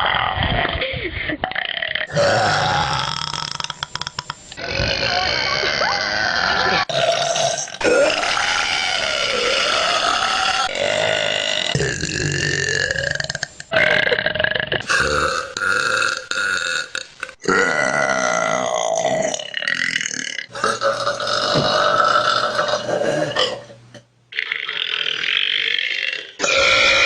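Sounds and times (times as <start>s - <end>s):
woman burping loudly: 0.0s - 27.0s.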